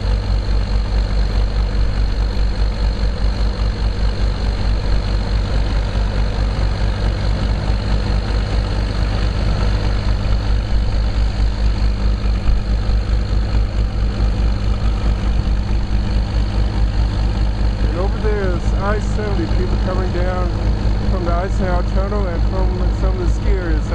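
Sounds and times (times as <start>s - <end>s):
diesel locomotive engine droning: 0.0s - 23.9s.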